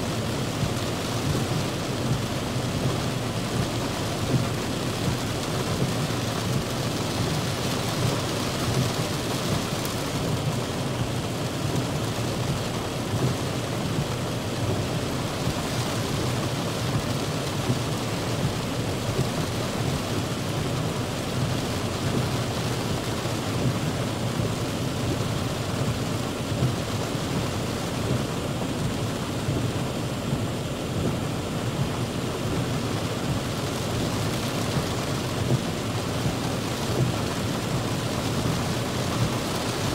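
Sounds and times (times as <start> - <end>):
heavy rain on a car roof: 0.0 - 39.9.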